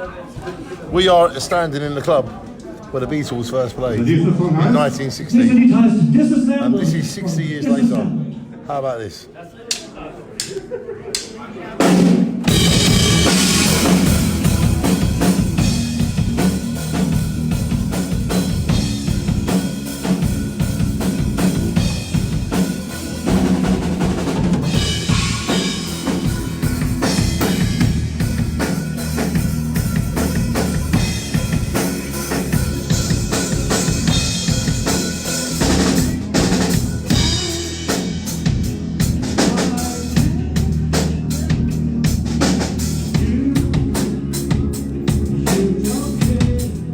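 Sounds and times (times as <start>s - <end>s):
drum kit beat: 4.1s - 8.3s, 11.8s - 46.9s
live rock band playing: 4.1s - 8.5s, 11.8s - 46.9s.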